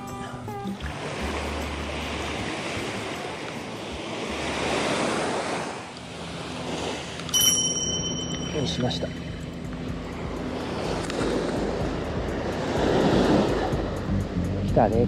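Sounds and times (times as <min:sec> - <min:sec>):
waves washing over sand: 0:00.7 - 0:09.0, 0:10.1 - 0:14.2.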